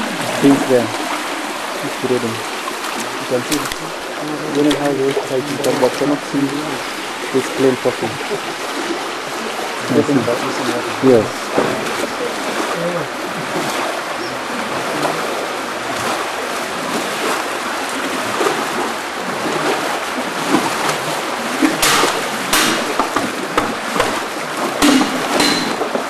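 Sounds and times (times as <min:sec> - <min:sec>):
sharp water splashes: 0:00.0 - 0:26.0
water rushing down a channel: 0:00.0 - 0:26.0.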